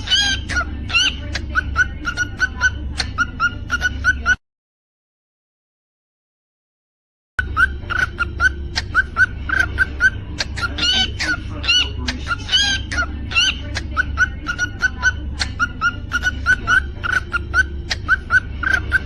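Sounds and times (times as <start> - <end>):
cockatiel chirping and whistling: 0.0 - 4.4, 7.4 - 19.0.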